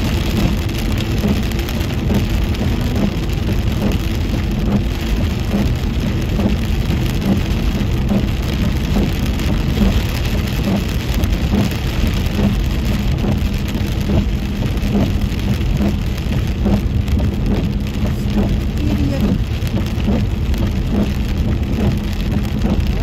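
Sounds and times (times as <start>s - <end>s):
rain on a car: 0.0s - 23.0s
tyres hissing on wet road: 0.0s - 23.0s
soft regular beat: 0.2s - 23.0s.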